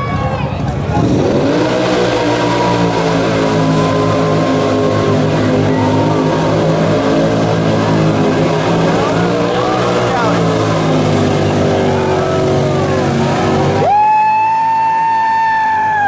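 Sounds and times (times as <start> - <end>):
atv engines at high revs: 0.0 - 16.0.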